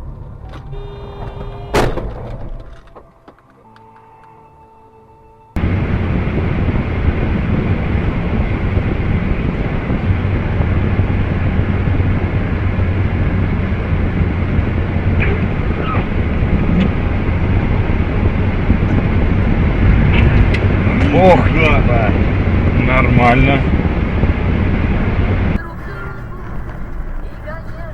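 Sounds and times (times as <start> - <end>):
car road and engine noise: 0.0 - 27.9.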